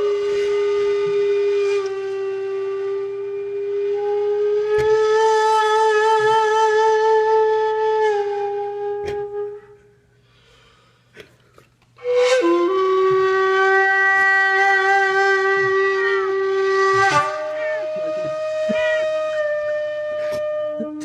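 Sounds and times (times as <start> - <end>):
steady wailing note: 0.0 - 9.8, 12.0 - 21.0.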